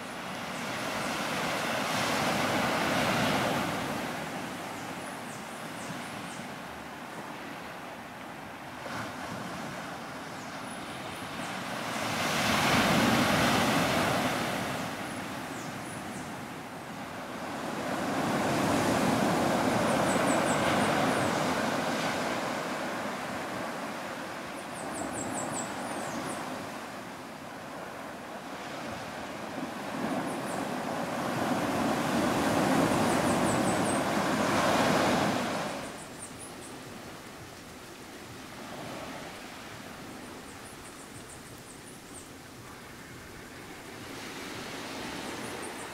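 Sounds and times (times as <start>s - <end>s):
waves breaking on shore: 0.0s - 5.0s, 5.7s - 45.9s.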